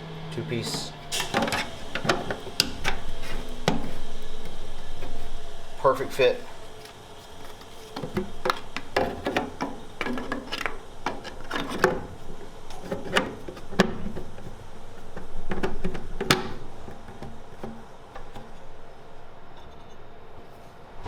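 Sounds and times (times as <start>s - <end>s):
parts clattering while handled: 0.6s - 20.7s.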